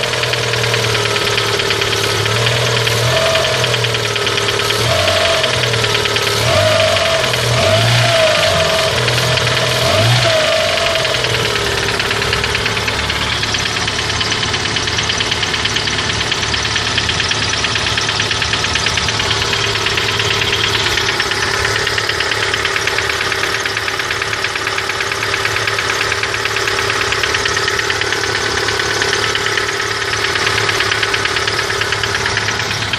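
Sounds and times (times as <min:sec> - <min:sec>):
fast ticking noise: 0:00.0 - 0:32.9
petrol engine idling: 0:00.0 - 0:32.9.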